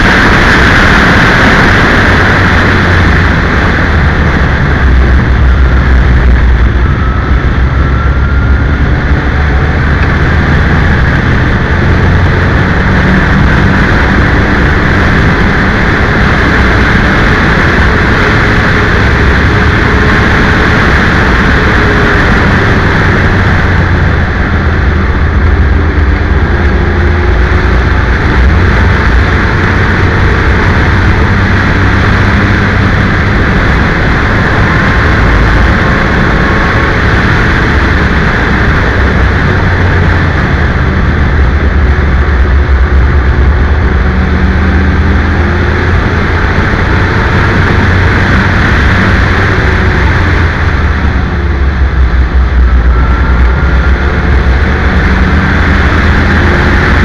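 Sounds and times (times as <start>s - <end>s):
race car engine under load: 0.0s - 57.0s
wind buffeting on microphone: 0.0s - 57.0s.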